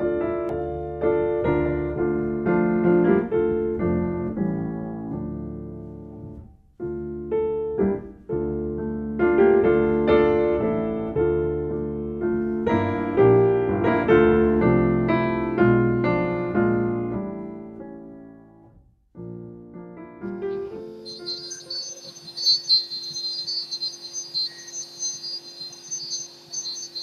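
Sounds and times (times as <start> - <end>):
solo piano melody: 0.0 - 27.0.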